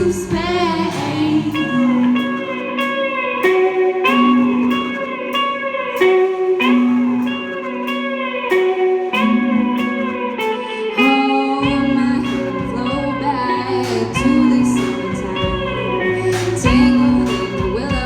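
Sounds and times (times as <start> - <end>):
electric guitar melody: 0.0 - 18.0.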